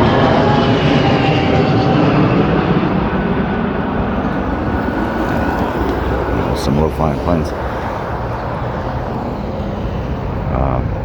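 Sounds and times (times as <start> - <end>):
low-flying airplane rumble: 0.0 - 11.0.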